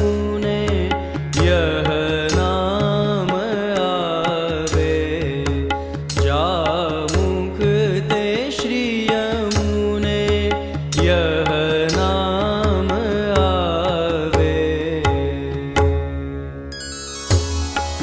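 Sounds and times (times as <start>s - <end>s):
man singing devotional song: 0.0s - 18.0s
tabla: 0.0s - 18.0s.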